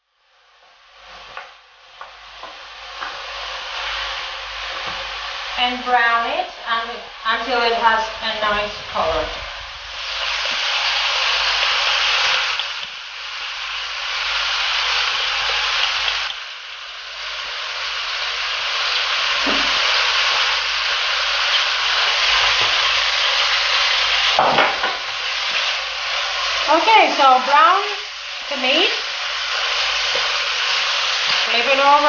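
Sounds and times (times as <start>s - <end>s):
meat sizzling in a pot: 0.0s - 32.0s.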